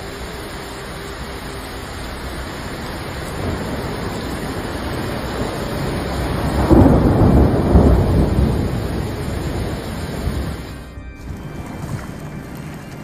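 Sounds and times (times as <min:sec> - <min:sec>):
wind with heavy rain: 0:00.0 - 0:13.0.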